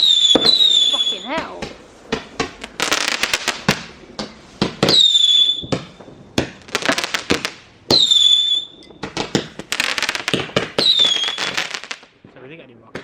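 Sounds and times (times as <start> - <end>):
whistling firework: 0.0 - 12.1
fireworks crackling bangs: 0.0 - 13.0.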